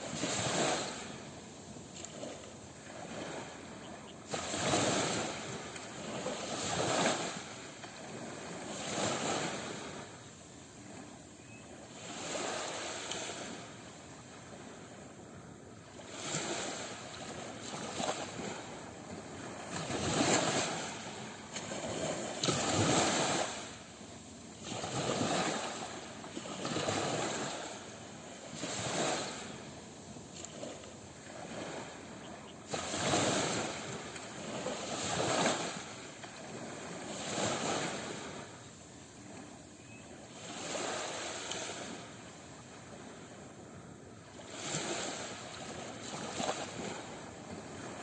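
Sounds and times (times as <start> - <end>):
small waves breaking on shore: 0.0 - 48.0.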